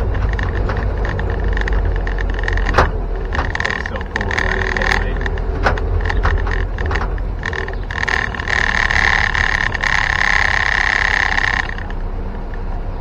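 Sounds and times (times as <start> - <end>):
loud buzzing rattle: 0.0 - 13.0
vehicle engine low rumble: 0.0 - 13.0.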